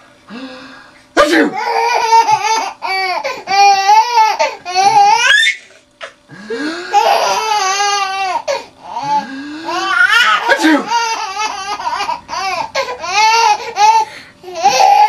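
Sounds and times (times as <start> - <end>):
small child laughing: 1.6 - 6.2, 6.8 - 15.0.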